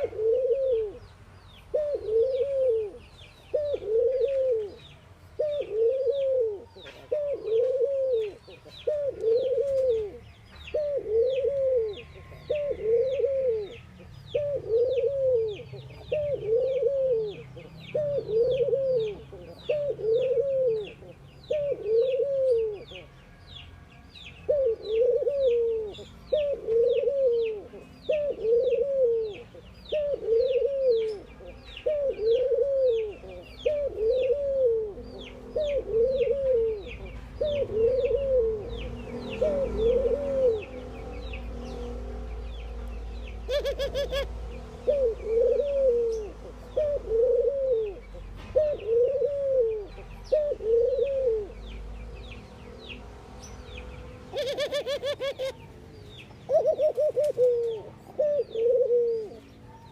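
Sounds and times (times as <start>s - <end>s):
dove cooing: 0.0s - 1.1s, 1.7s - 23.1s, 24.4s - 51.8s, 54.3s - 59.9s.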